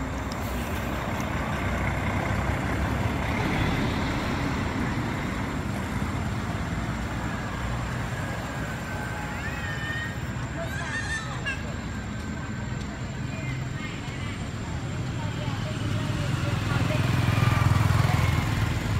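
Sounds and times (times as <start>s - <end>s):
vehicle passing on road: 0.0s - 18.9s.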